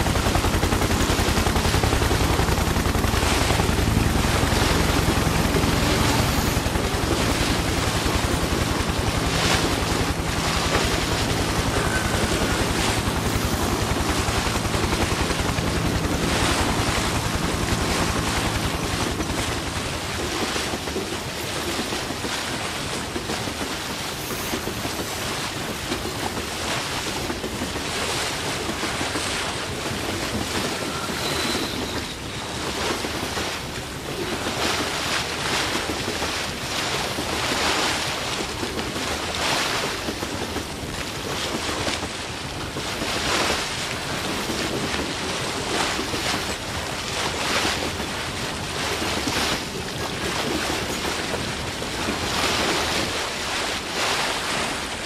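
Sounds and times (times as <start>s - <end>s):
rushing surf-like noise: 0.0s - 55.0s.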